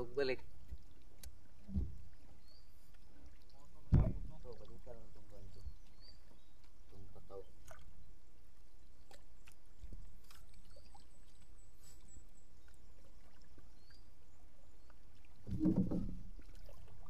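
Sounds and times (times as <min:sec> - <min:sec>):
water moving against a boat: 0:00.0 - 0:17.0.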